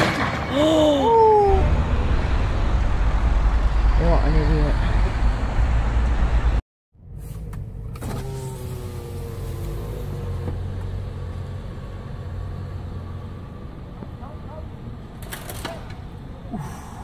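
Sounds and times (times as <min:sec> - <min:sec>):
road traffic rumble: 0:00.5 - 0:17.0.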